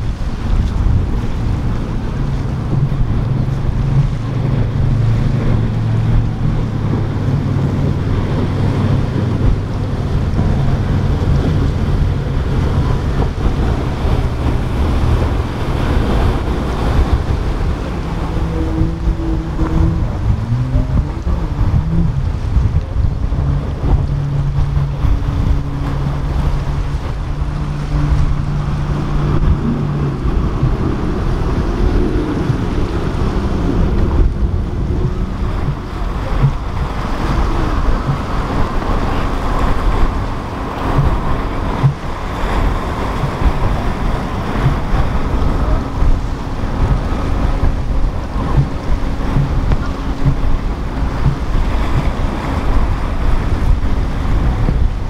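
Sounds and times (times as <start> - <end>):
boat engines running: 0.0 - 55.0
waves rushing: 0.0 - 55.0
wind buffeting microphone: 0.0 - 55.0.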